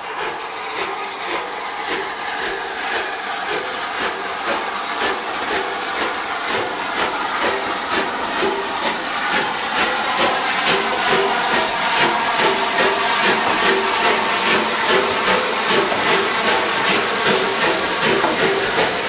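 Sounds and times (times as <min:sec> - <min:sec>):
steam hissing: 0:00.0 - 0:19.0
steam locomotive exhaust beat: 0:00.0 - 0:19.0.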